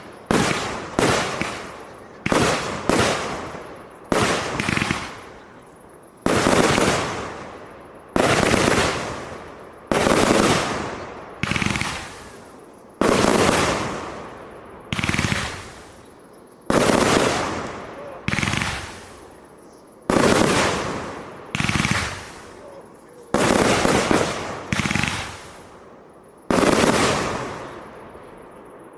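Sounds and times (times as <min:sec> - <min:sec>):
fireworks bursts crackling: 0:00.0 - 0:28.9.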